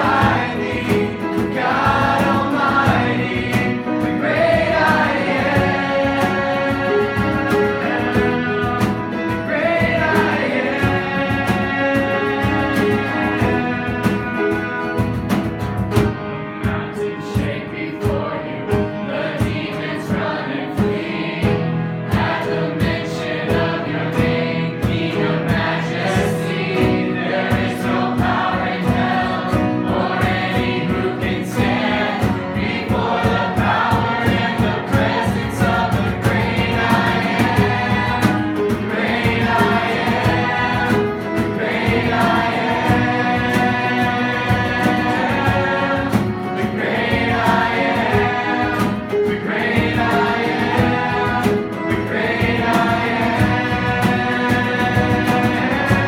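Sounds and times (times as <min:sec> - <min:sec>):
band with steady beat: 0:00.0 - 0:56.0
voices singing together: 0:00.0 - 0:56.0.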